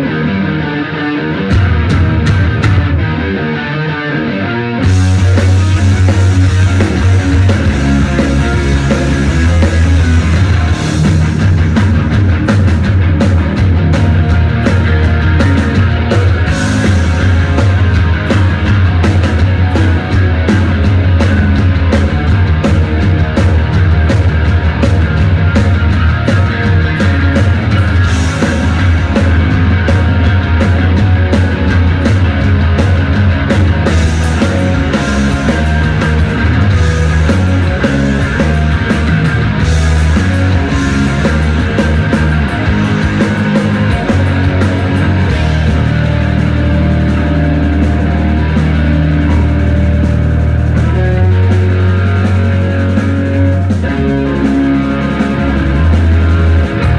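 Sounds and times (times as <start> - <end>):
rock band playing: 0.0 - 56.9.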